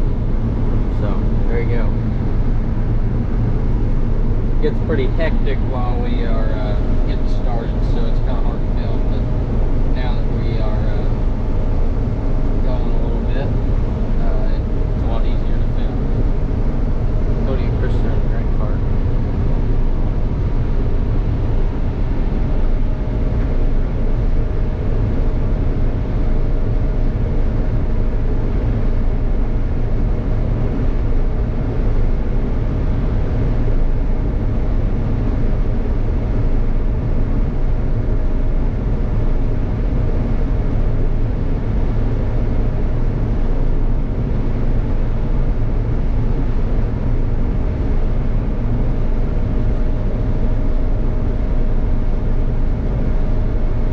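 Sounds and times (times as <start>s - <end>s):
faint steady whine: 0.0s - 53.9s
low machinery drone: 0.0s - 53.9s.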